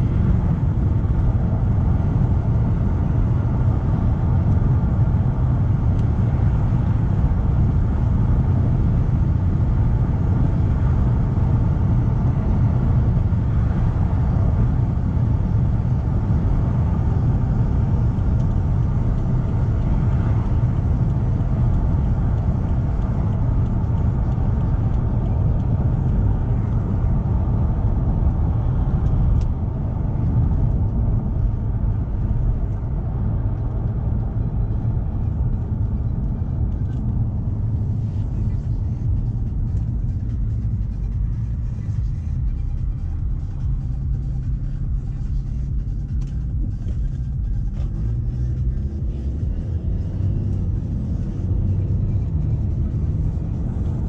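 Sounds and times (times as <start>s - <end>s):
diesel engine low rumble: 0.0s - 54.0s
road noise: 0.0s - 54.0s.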